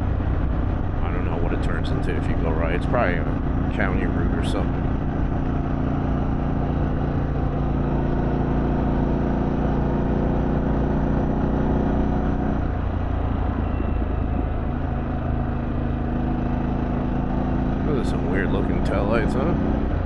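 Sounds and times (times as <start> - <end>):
motorcycle engine while riding: 0.0 - 20.0.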